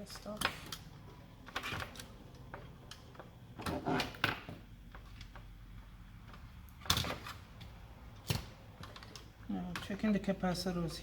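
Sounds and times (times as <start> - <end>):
tools clicking and knocking: 0.0 - 10.1.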